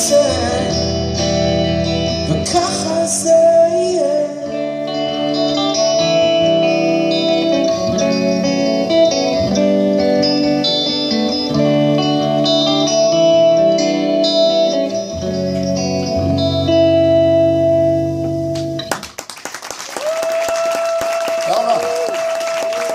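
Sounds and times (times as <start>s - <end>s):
electric guitars playing: 0.0s - 19.2s.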